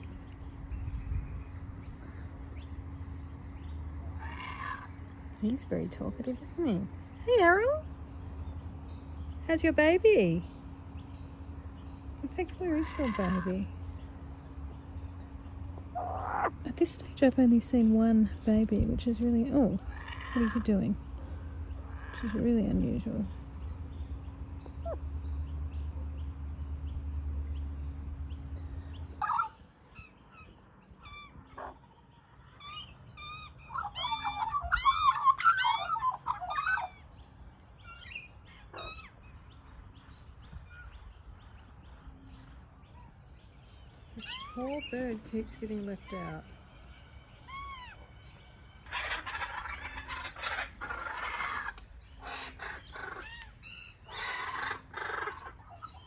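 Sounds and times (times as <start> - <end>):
birds chirping: 0.0 - 56.0
steady low hum: 0.0 - 56.0.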